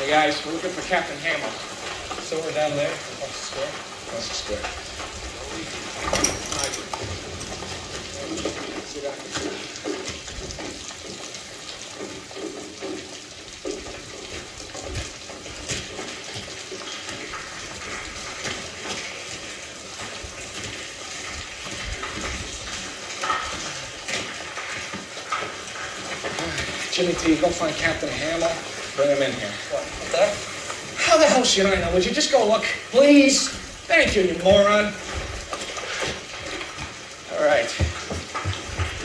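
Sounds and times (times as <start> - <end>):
rain hissing: 0.0 - 39.0.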